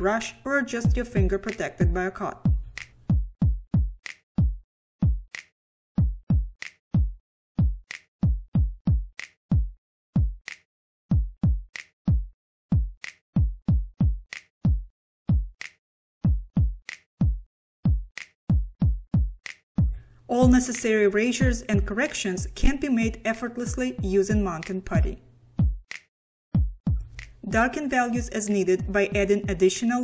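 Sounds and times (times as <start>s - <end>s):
electronic drum machine beat: 0.8s - 5.4s, 6.0s - 15.6s, 16.2s - 30.0s.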